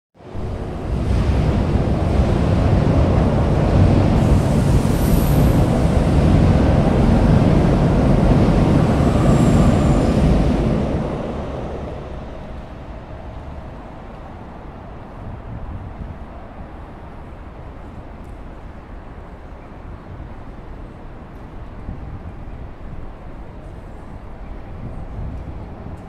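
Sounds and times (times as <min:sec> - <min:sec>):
train wheels rumbling on rails: 0:00.2 - 0:26.0.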